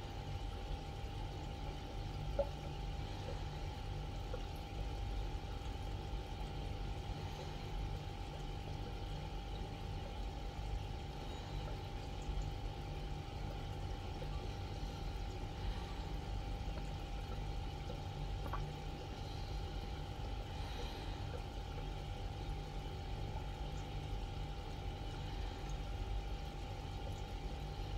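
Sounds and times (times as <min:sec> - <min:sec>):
aquarium pump rumble and whine: 0:00.0 - 0:27.9
water trickling: 0:00.0 - 0:27.9.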